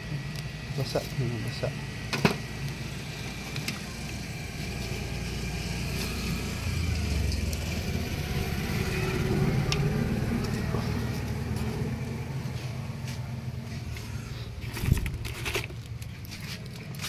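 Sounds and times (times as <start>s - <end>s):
handheld fan whirring: 0.0s - 17.0s.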